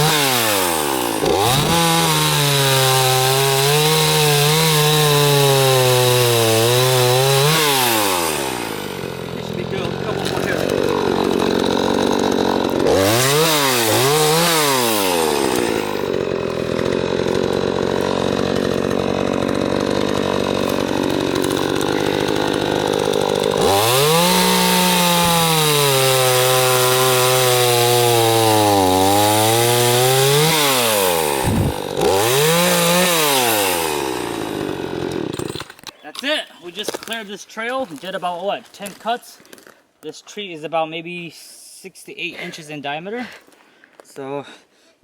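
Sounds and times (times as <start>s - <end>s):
chainsaw cutting logs: 0.0s - 39.7s.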